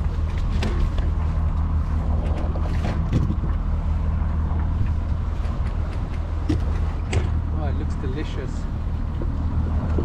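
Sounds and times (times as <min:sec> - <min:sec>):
low rumble: 0:00.0 - 0:10.0
water moving past hull: 0:00.0 - 0:10.0
wind buffeting microphone: 0:00.0 - 0:10.0.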